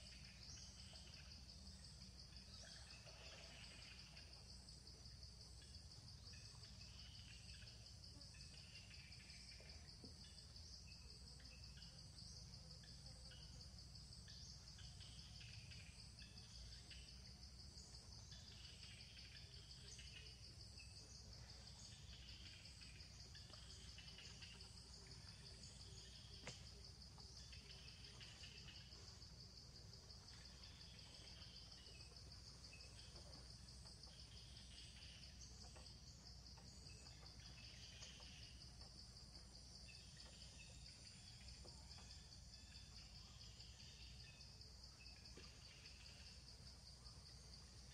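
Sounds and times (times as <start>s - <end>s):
high-pitched insect trill: 0.0s - 47.9s.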